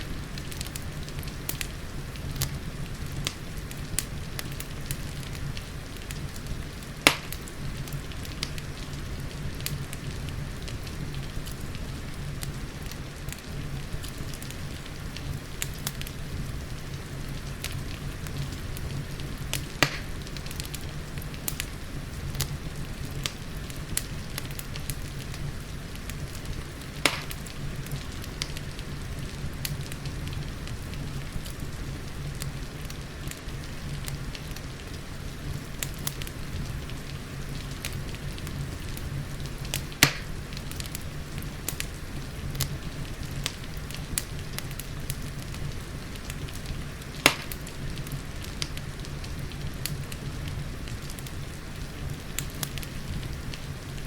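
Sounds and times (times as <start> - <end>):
fireplace crackling: 0.0 - 54.0
loud fire snaps: 0.0 - 54.0.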